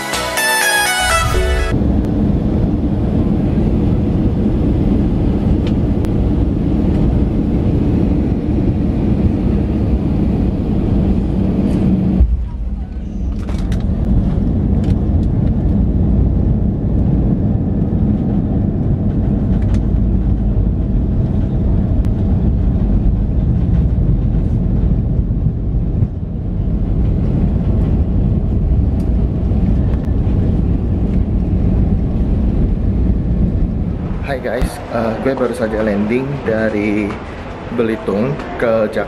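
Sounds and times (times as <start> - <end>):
airplane cabin rumble: 0.4 - 39.0.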